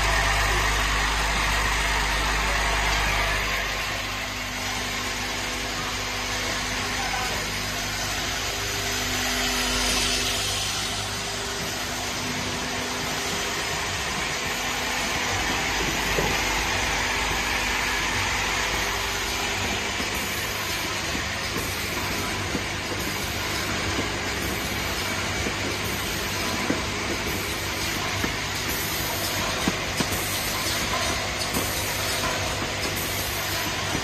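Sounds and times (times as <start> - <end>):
filling machine humming and hissing: 0.0 - 34.0
vibratory bowl feeders: 0.0 - 34.0.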